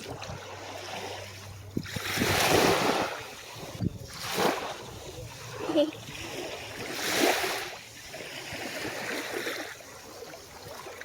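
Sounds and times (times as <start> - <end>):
small waves washing onto beach: 0.0 - 11.0.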